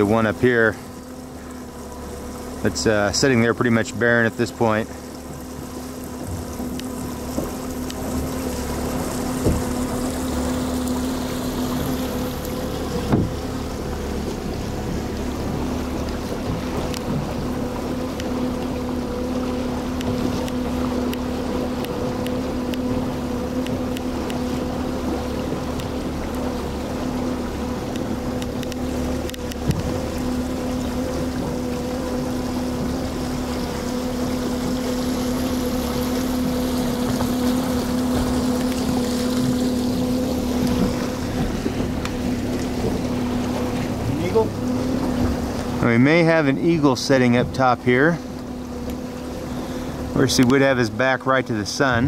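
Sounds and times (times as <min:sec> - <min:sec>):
outboard engine running: 0:00.0 - 0:52.0
water wash: 0:00.0 - 0:52.0.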